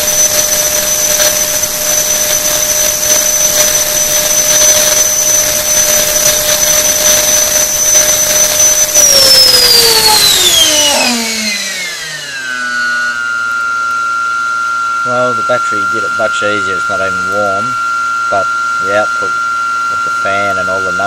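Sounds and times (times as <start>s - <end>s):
electric ducted fan whining: 0.0s - 21.0s.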